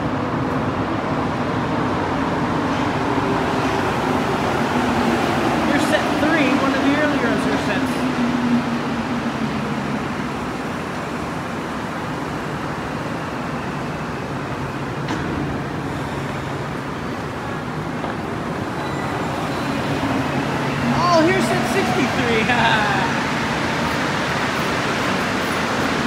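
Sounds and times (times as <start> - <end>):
metro station hum and rumble: 0.0 - 26.0.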